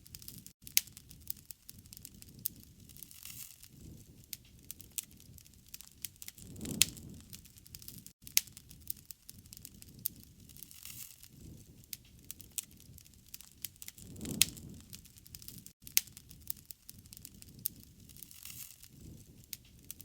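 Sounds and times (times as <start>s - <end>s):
campfire crackling and popping: 0.0s - 20.0s
low rumble of flames: 0.1s - 20.0s.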